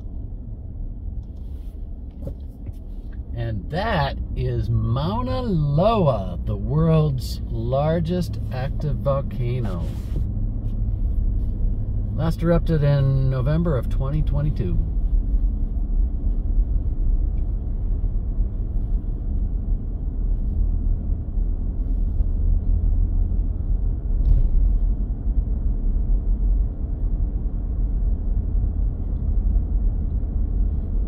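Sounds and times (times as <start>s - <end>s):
road rumble inside moving car: 0.0s - 31.0s.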